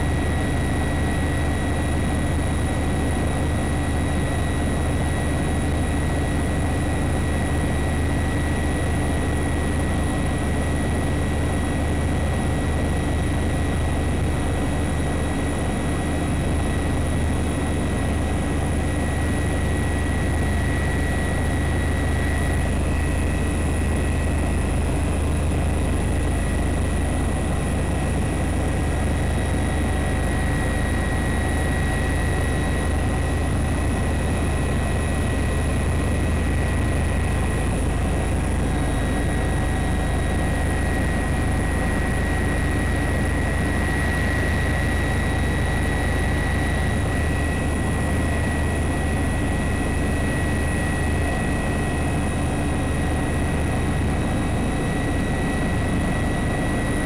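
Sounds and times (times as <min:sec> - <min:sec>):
helicopter engine and rotor hum: 0:00.0 - 0:57.0.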